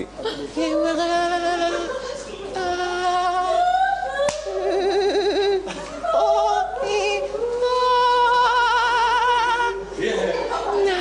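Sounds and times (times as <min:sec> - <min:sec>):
person singing unaccompanied: 0:00.6 - 0:10.0.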